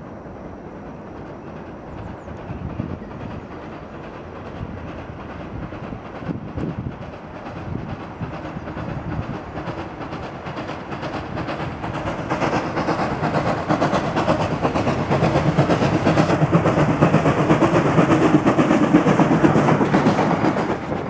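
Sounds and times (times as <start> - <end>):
steam locomotive hauling train: 0.0 - 21.0.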